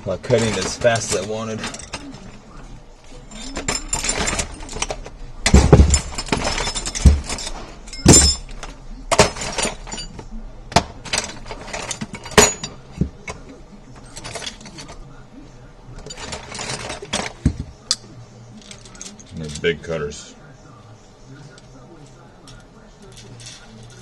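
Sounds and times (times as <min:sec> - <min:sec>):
scraping and handling noise: 0:00.0 - 0:24.0.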